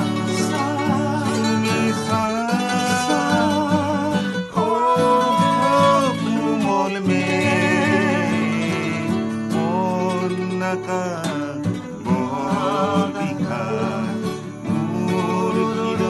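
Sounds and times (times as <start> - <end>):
acoustic guitars: 0.0 - 16.0
man singing: 0.0 - 16.0.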